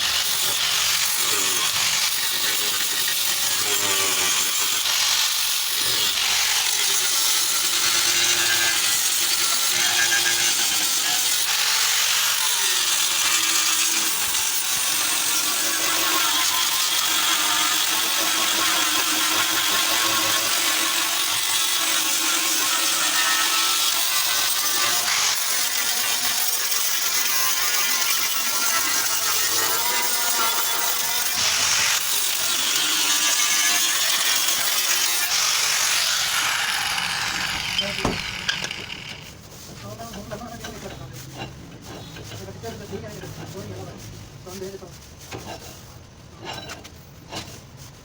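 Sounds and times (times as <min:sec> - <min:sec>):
handheld power tool running: 0:00.0 - 0:39.4.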